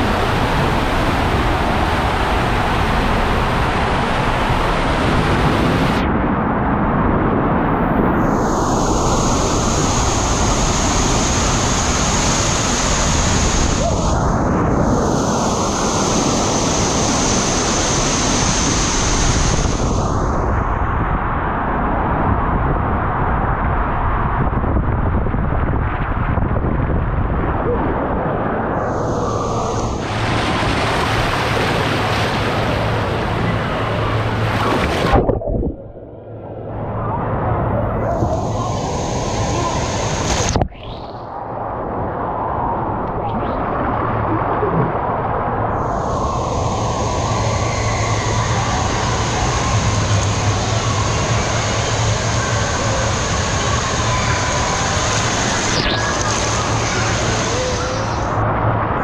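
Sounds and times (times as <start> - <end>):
water rushing and splashing: 0.0 - 6.0, 8.2 - 20.6, 27.3 - 59.0.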